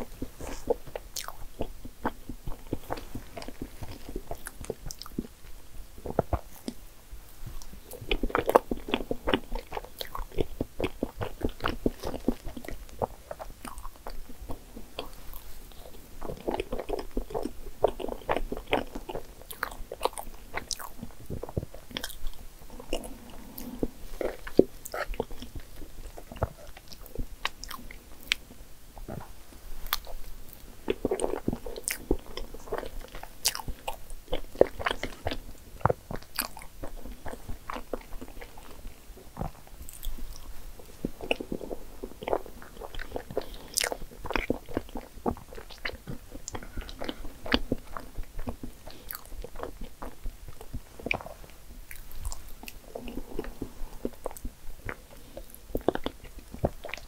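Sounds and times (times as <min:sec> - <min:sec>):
chewing and wet mouth sounds: 0:00.0 - 0:57.0.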